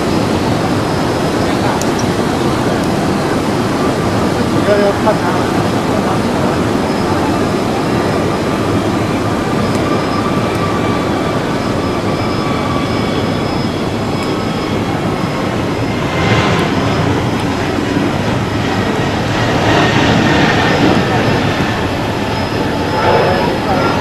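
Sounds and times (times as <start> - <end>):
high engine whine: 0.0 - 24.0
jet engines running: 0.0 - 24.0.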